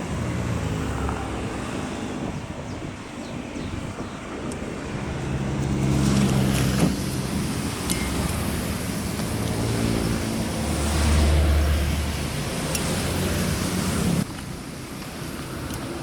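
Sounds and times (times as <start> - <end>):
engine humming: 0.0 - 16.0
rushing noise: 0.0 - 16.0.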